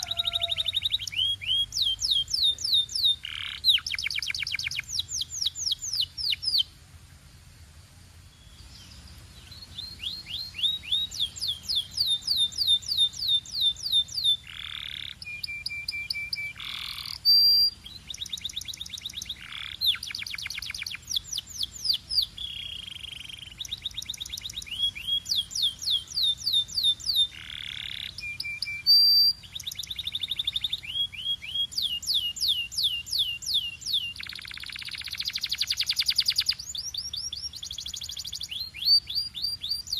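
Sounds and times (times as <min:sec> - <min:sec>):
canary singing trills: 0:00.0 - 0:06.8, 0:08.4 - 0:39.9.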